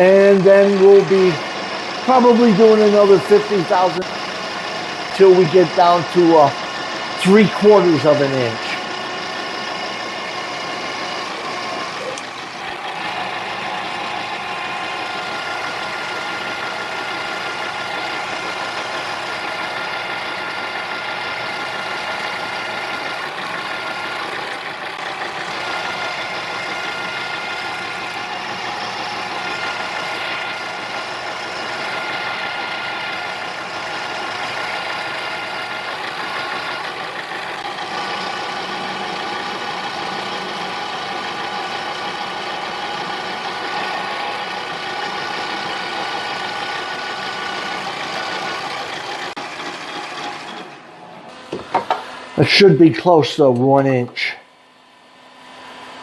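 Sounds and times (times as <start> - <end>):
lathe whining: 0.0 - 52.6.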